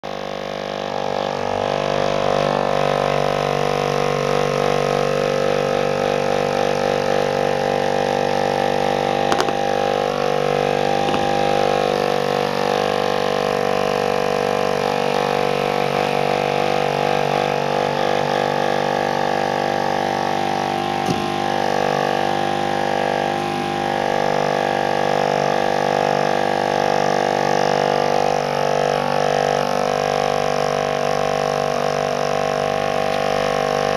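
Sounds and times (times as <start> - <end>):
electric massager buzzing hum: 0.0 - 33.9.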